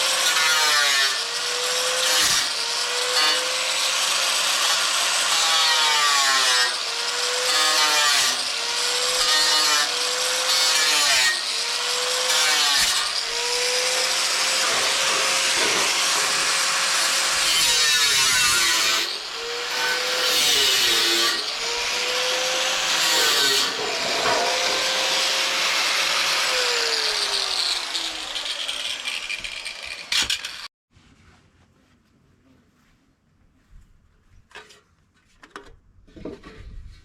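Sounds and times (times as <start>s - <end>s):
power tool cutting wood: 0.0s - 30.7s.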